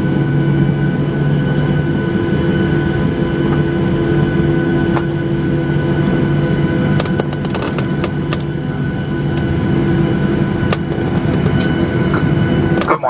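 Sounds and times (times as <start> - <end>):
steady whining tones: 0.0 - 13.0.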